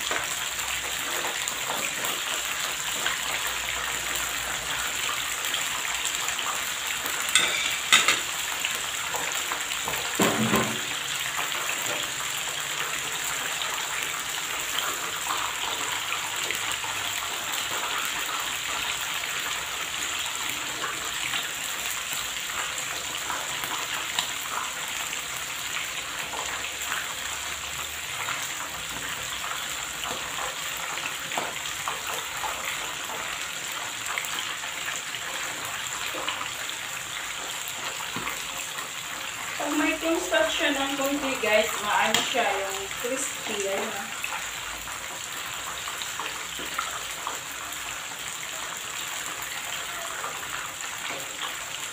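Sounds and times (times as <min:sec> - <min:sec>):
squid deep-frying in oil: 0:00.0 - 0:51.9.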